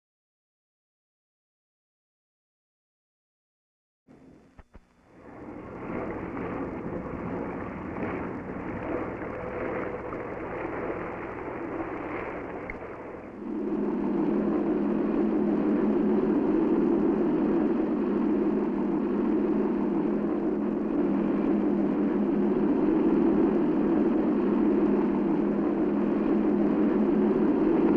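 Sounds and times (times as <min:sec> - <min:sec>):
boat engine at speed: 0:04.5 - 0:27.9.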